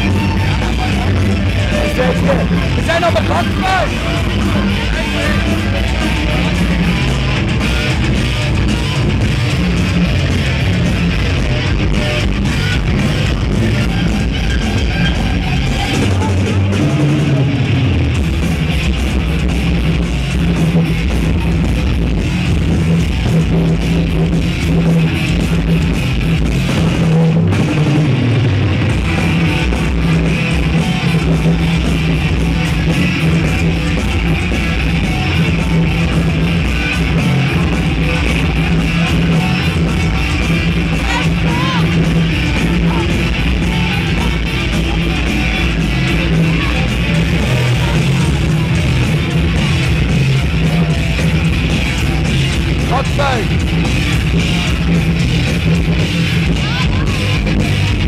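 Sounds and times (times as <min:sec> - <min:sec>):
loud rock music: 0:00.0 - 0:58.0.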